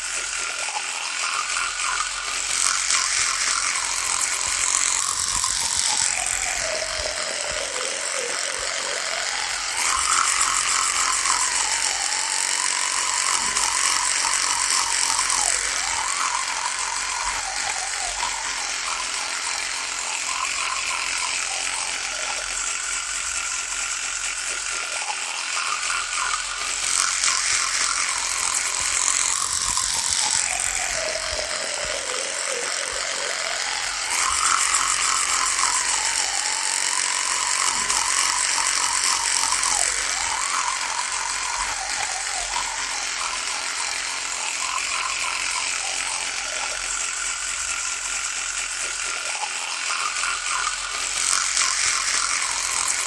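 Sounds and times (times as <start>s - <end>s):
electric toothbrush buzzing: 0.0s - 53.0s.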